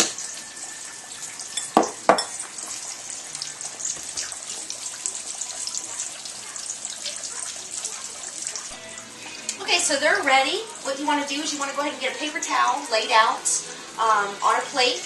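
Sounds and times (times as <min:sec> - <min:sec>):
frying sizzle in oil: 0:00.0 - 0:15.0.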